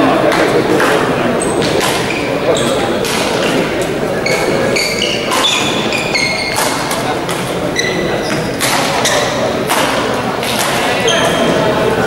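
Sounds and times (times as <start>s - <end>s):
crowd chatter in sports hall: 0.0s - 12.0s
sports shoes squeaking: 0.2s - 11.8s.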